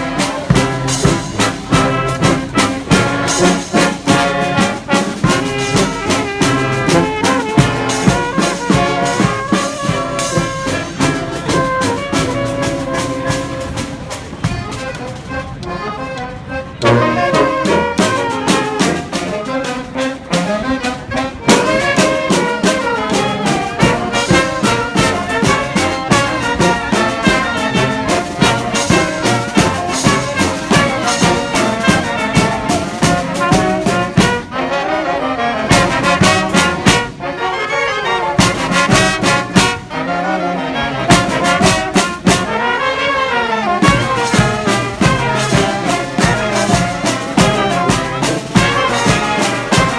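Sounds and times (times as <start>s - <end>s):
drums beating: 0.0s - 15.7s, 16.7s - 34.6s, 35.7s - 37.2s, 38.4s - 39.9s, 41.0s - 42.7s, 43.8s - 49.9s
trumpets and trombones: 0.0s - 49.9s.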